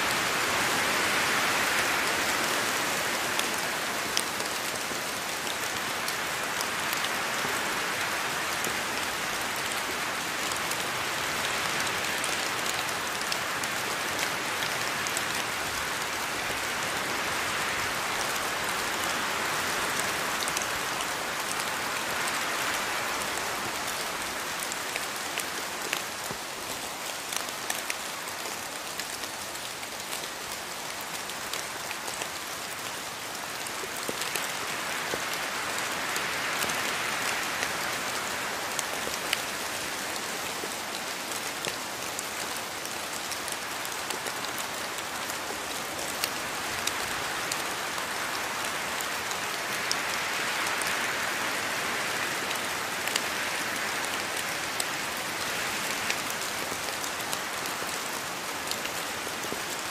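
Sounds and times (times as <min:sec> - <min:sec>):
raindrops ticking on leaves: 0:00.0 - 0:59.9
steady rain hiss: 0:00.0 - 0:59.9.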